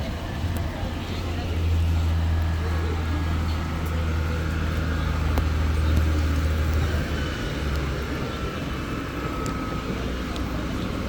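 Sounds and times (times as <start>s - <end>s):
hiss of passing traffic: 0.0s - 11.0s
vehicle engine rumble: 0.0s - 11.0s.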